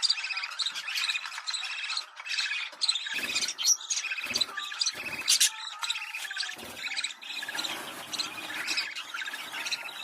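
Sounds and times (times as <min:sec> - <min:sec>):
budgerigars chattering: 0:00.0 - 0:10.0.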